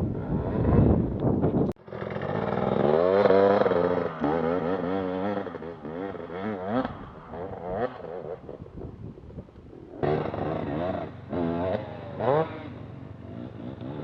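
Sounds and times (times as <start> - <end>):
dirt bike engine revving: 1.8 - 14.0.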